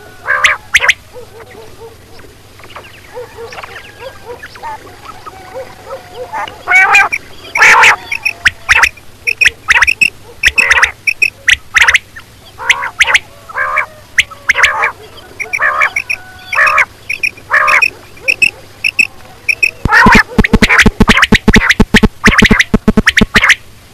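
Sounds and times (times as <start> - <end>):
quail calling: 0.0 - 23.6.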